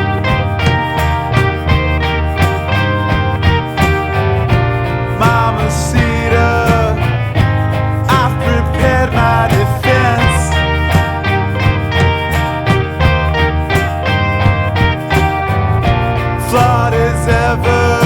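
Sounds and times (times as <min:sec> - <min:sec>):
slow rock band music: 0:00.0 - 0:18.0.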